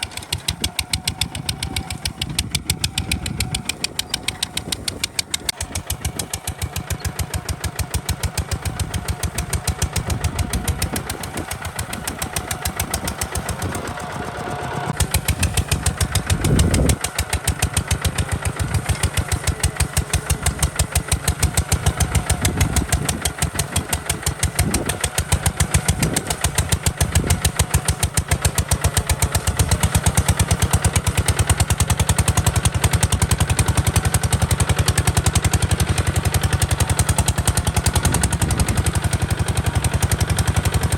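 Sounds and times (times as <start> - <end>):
tractor diesel engine chugging: 0.0 - 40.9.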